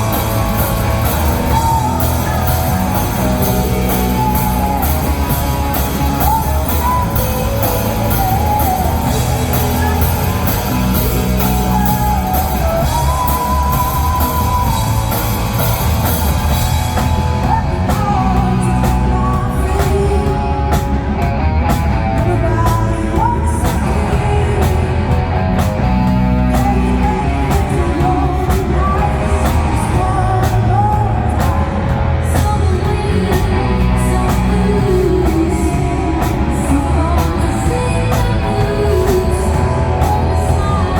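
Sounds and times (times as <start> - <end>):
rock music with singing: 0.0 - 40.9.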